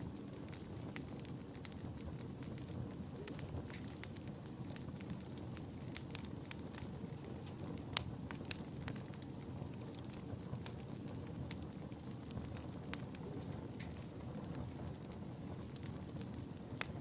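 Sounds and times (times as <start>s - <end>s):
burning logs popping and snapping: 0.0s - 17.0s
low rumble of flames: 0.0s - 17.0s.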